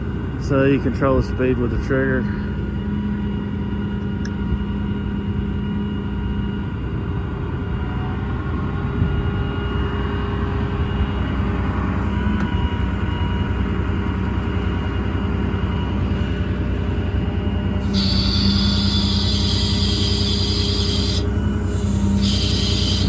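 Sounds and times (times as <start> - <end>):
crane mechanical rumble: 0.0 - 23.0
hydraulic whine: 0.0 - 23.0.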